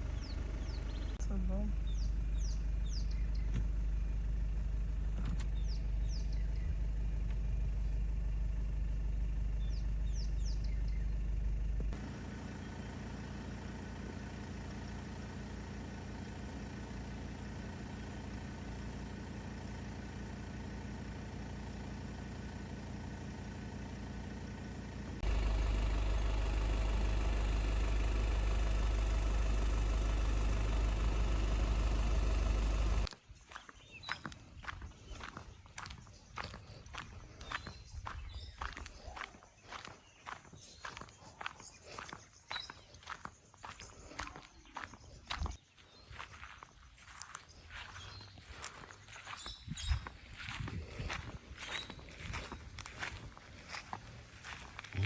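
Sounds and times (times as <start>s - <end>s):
car engine and road noise: 0.0s - 33.2s, 33.8s - 55.0s
birds chirping: 0.0s - 55.0s.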